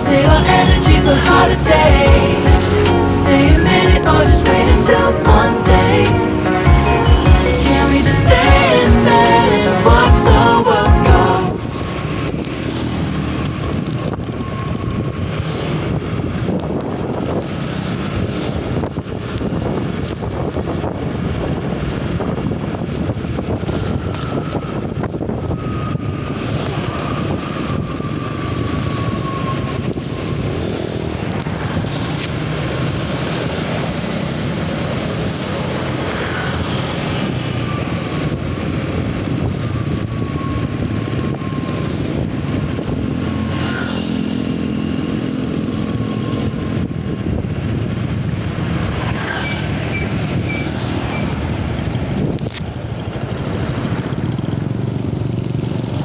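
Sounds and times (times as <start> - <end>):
passing traffic whines: 0.0 - 56.0
wind rushing over microphone: 8.3 - 34.4, 36.0 - 56.0.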